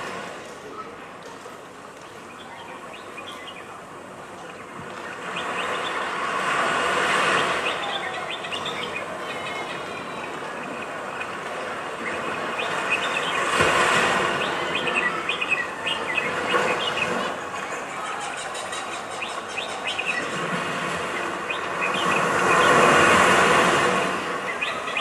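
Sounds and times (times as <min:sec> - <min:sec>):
birds chirping: 0:00.6 - 0:25.0
steady rushing noise: 0:03.0 - 0:25.0.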